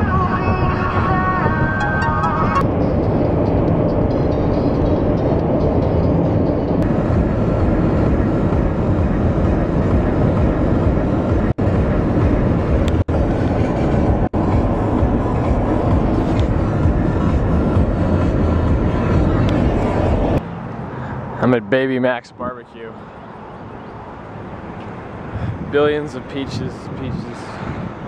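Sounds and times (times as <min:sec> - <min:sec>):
tyre and wind road noise: 0:00.0 - 0:28.0.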